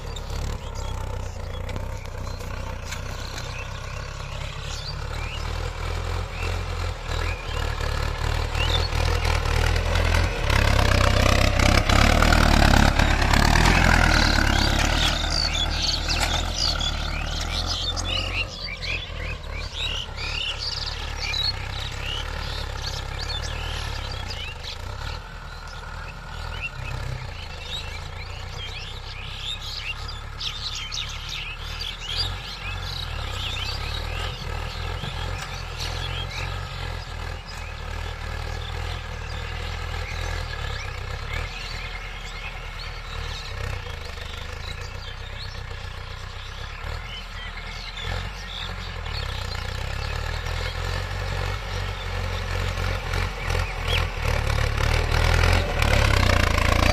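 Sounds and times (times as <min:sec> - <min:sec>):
birds chirping: 0:00.0 - 0:56.9
tractor engine running under load: 0:00.0 - 0:56.9.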